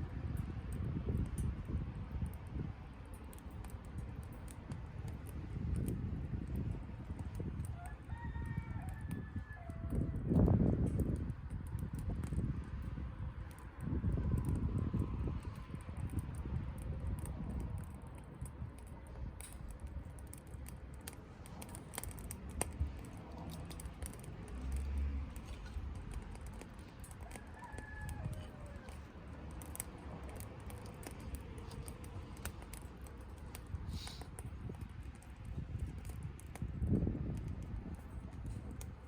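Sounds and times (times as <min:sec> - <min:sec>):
stove low rumble: 0:00.0 - 0:39.0
wood fire crackling and popping: 0:00.0 - 0:39.0.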